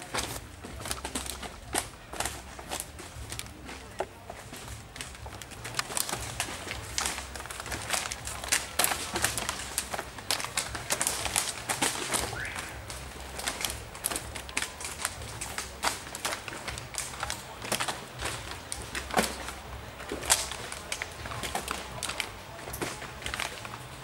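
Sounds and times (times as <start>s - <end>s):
plastic bottles clattering and crackling: 0.0s - 24.0s.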